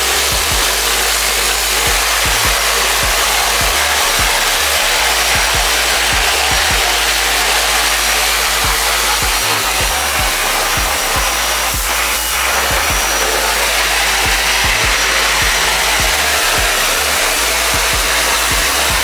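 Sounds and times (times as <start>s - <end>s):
pressure hose spraying water: 0.0s - 19.0s.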